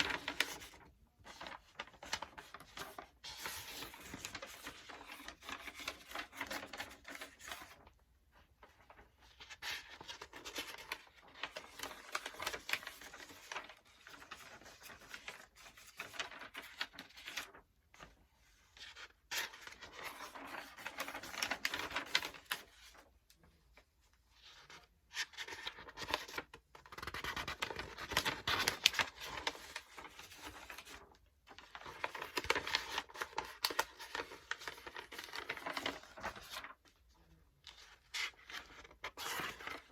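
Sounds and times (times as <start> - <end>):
book pages turning: 0.0 - 7.9, 8.7 - 18.1, 18.7 - 23.1, 24.5 - 36.9, 37.6 - 39.9.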